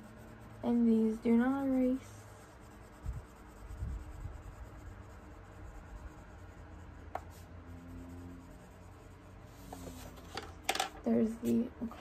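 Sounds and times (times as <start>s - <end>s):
pencil scratching on paper: 0.0s - 10.5s, 11.1s - 12.0s.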